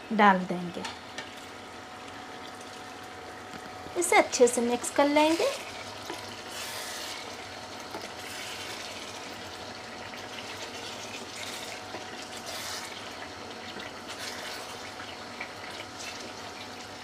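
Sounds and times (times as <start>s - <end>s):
food sizzling in a pot: 1.2s - 17.0s.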